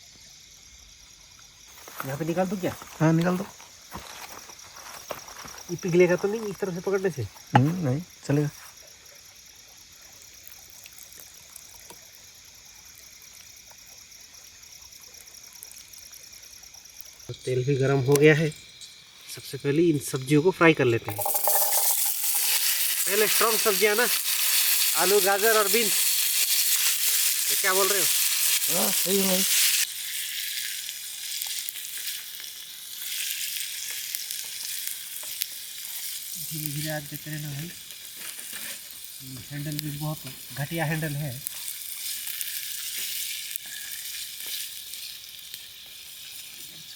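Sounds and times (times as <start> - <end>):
insects buzzing: 0.0 - 46.9
vegetables sizzling in hot oil: 0.1 - 1.4, 9.4 - 20.2, 21.1 - 46.9.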